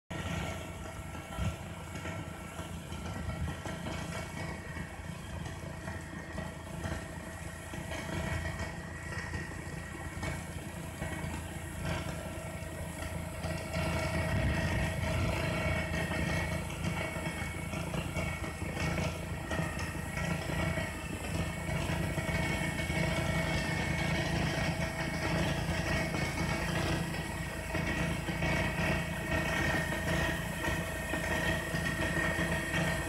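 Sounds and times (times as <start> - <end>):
snow blower mechanical drone: 0.1 - 33.0.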